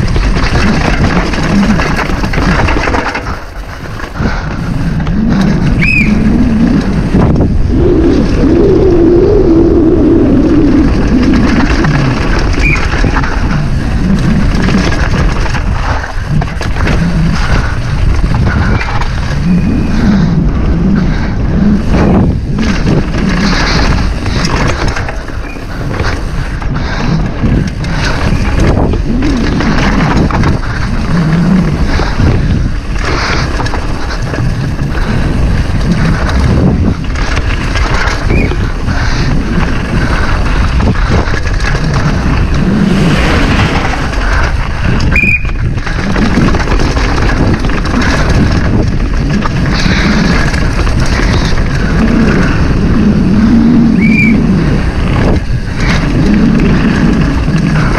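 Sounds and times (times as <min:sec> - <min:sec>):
mountain bike rattling over trail: 0:00.0 - 0:57.9
wind on microphone: 0:00.0 - 0:57.9.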